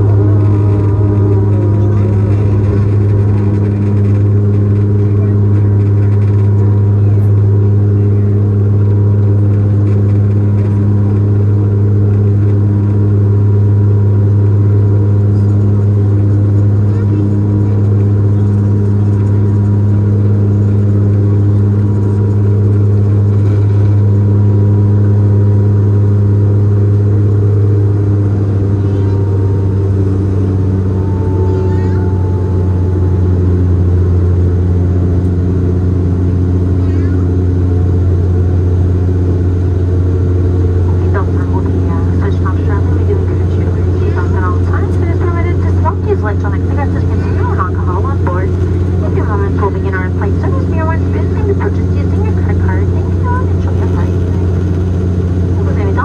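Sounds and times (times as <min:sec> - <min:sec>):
turboprop engines droning in cabin: 0:00.0 - 0:56.0.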